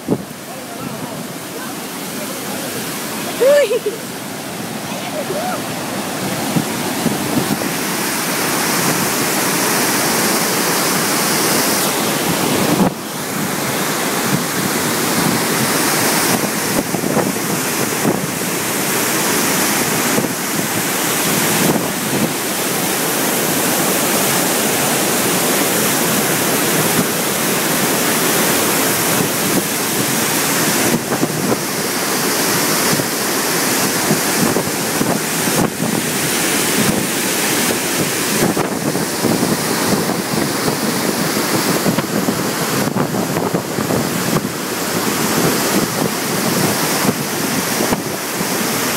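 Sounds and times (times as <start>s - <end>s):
rushing water roaring: 0.0s - 48.9s.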